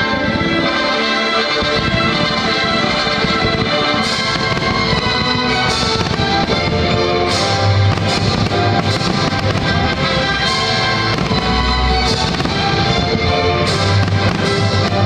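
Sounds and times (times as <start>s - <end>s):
fireworks bursting and crackling: 0.0s - 15.0s
loud music: 0.0s - 15.0s.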